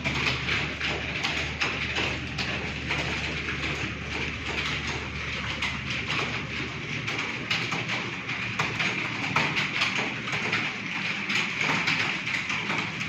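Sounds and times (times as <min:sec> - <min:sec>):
fast keyboard typing: 0:00.0 - 0:13.0.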